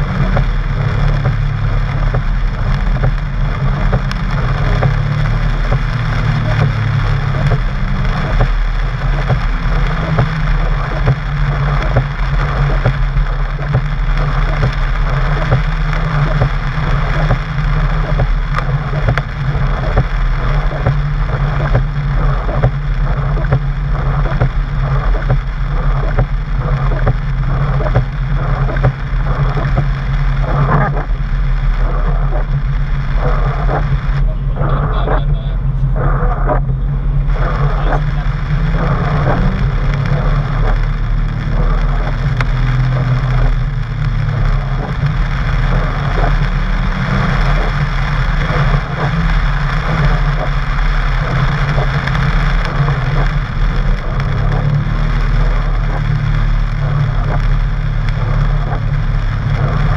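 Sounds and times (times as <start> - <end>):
car engine running: 0.0 - 59.9
rain hissing on wet road: 0.0 - 59.9.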